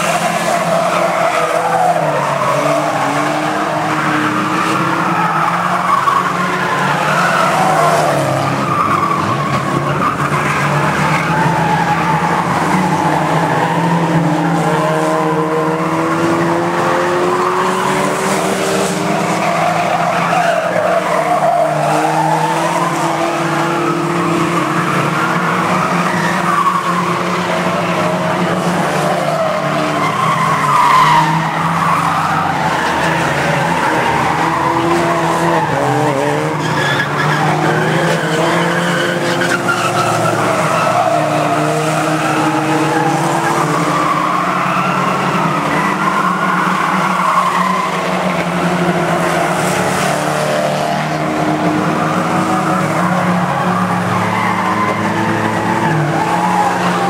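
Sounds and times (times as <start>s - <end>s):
car engines revving: 0.0s - 57.0s
tyres squealing and skidding: 0.0s - 57.0s.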